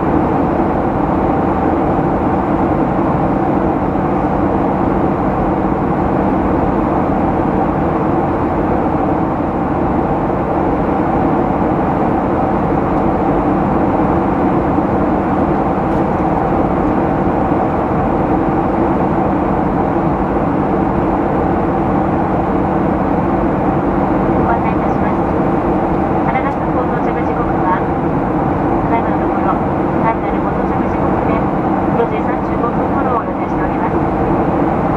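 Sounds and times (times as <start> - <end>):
air rushing in cabin: 0.0 - 34.9
jet engines droning: 0.0 - 34.9
steady hums: 0.0 - 34.9.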